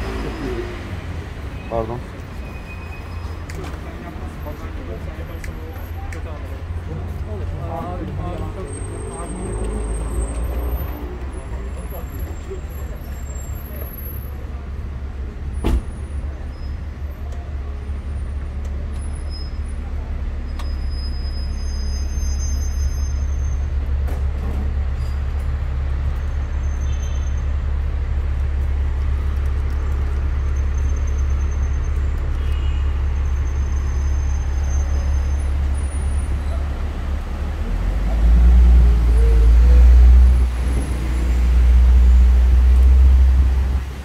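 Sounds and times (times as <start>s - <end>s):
low rumble of road traffic: 0.0s - 44.0s.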